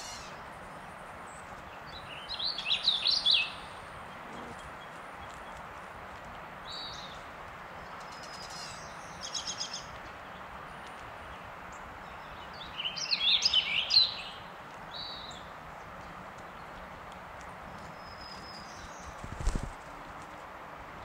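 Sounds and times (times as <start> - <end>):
songbirds calling: 0.0 - 21.0.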